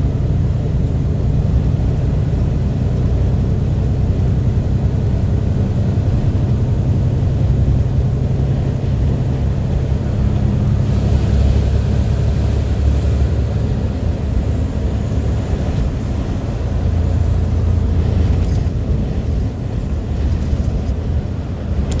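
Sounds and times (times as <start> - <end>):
diesel engine droning: 0.0 - 22.0
tyre and road noise: 0.0 - 22.0.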